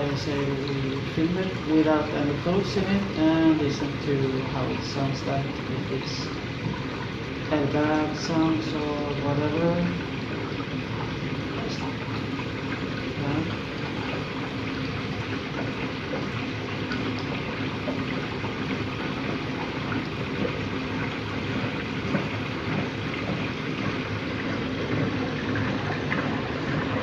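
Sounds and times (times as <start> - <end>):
faint constant hum: 0.0 - 27.0
water sloshing in washing machine drum: 0.0 - 27.0.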